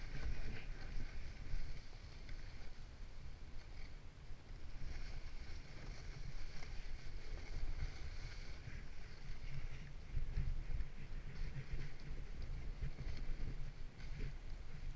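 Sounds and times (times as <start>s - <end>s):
snowboard sliding across snow: 0.0s - 14.9s
wind buffeting microphone: 0.0s - 14.9s.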